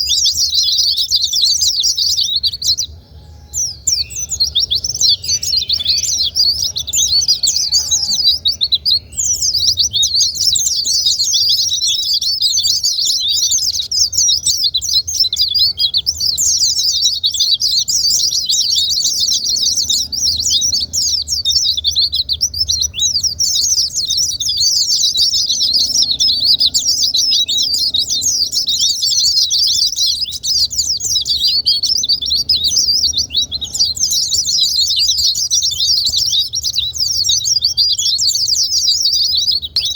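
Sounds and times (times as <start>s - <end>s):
bird chirps and twitters: 0.0s - 39.9s.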